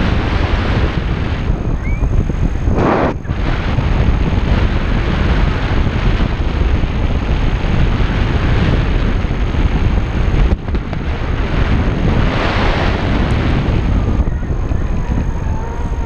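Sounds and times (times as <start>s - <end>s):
wind buffeting camera microphone: 0.0s - 16.0s.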